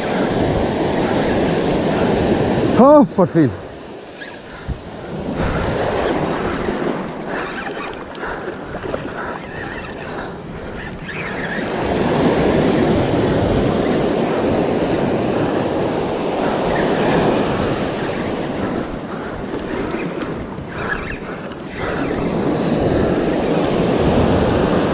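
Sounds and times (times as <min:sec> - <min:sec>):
surf washing up beach: 0:00.0 - 0:09.2, 0:11.2 - 0:24.9.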